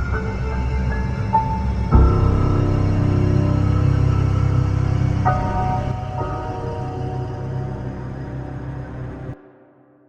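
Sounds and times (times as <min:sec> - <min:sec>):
ominous horror music drone: 0:00.0 - 0:09.4.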